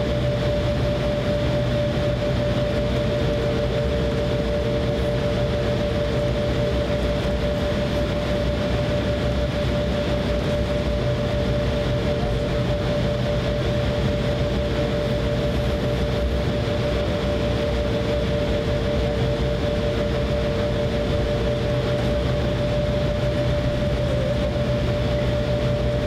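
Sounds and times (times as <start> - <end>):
jet engines whining while taxiing: 0.0 - 26.0.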